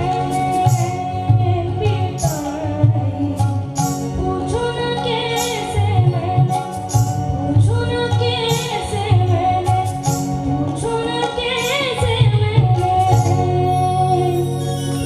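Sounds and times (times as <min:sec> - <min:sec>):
boy singing into a microphone: 0:00.0 - 0:14.8
instrumental backing music with beat: 0:00.0 - 0:15.0.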